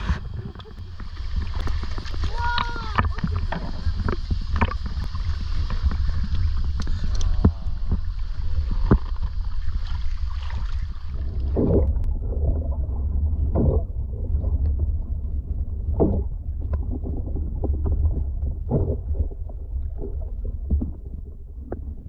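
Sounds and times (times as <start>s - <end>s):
underwater low rumble: 0.0s - 22.0s
whoosh of moving water: 0.0s - 22.0s
wind on camera microphone: 0.0s - 22.0s.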